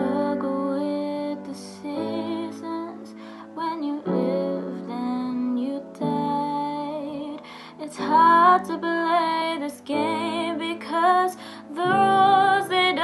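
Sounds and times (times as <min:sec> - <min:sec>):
piano chords: 0:00.0 - 0:13.0
woman singing: 0:00.0 - 0:13.0.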